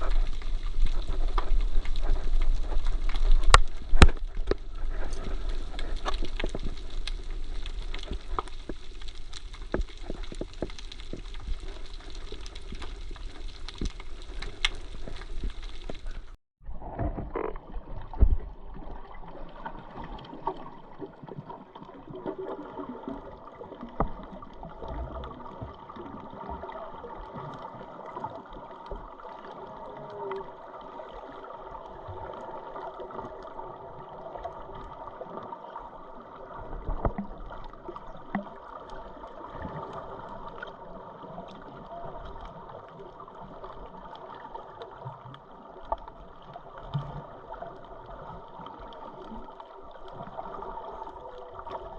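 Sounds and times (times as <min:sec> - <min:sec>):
muffled underwater water sloshing: 0:00.0 - 0:51.9.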